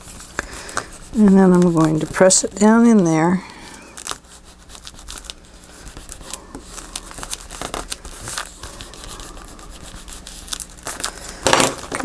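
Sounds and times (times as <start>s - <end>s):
paper and tape crinkling: 0.0s - 12.0s.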